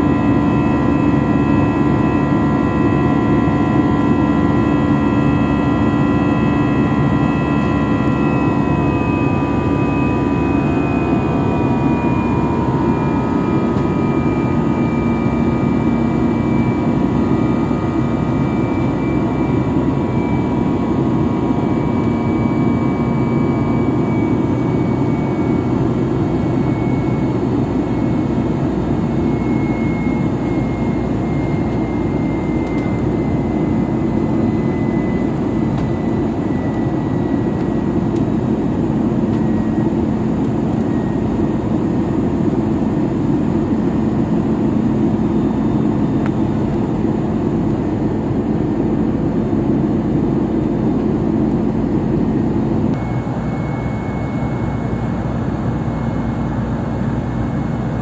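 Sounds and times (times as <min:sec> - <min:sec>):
faint high whine: 0:00.0 - 0:58.0
jet engine drone in cabin: 0:00.0 - 0:58.0.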